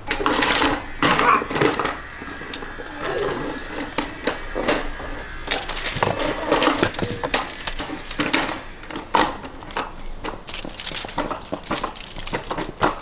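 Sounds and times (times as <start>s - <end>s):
roasted skin crackling: 0.1s - 13.0s.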